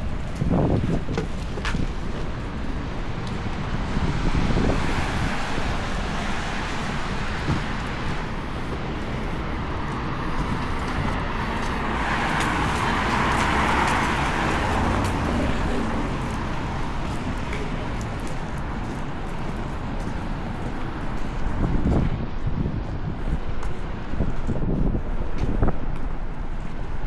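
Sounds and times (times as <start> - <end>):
rumble of cars on road: 0.0 - 27.0.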